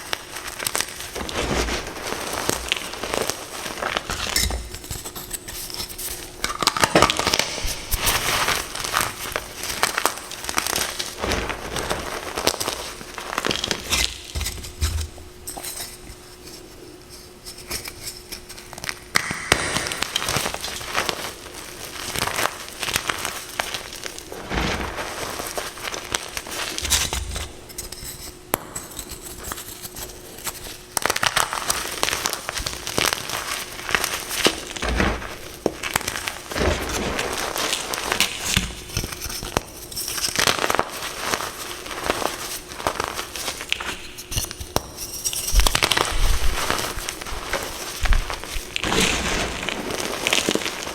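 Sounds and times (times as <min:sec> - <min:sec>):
chalk crunching and crackling: 0:00.0 - 0:50.9.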